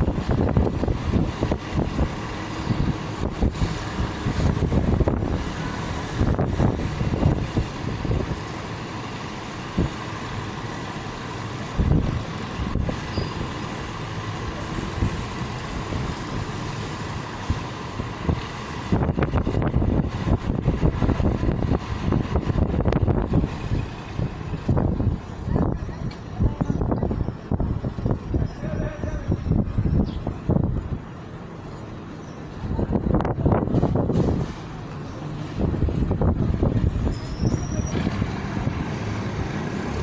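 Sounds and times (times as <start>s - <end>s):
dump truck engine running: 0.0s - 40.0s.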